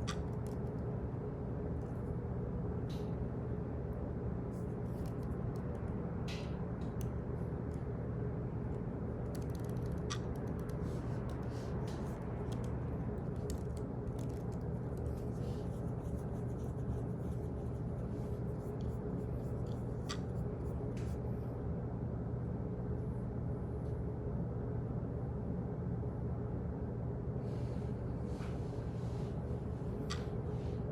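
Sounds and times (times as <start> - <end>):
low room hum: 0.0 - 30.9.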